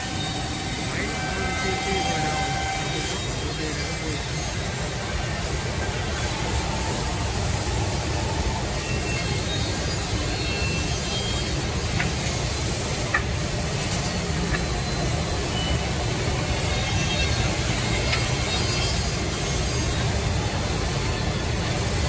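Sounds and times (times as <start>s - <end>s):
hiss: 0.0s - 22.0s
woodworking machinery running: 0.0s - 22.0s.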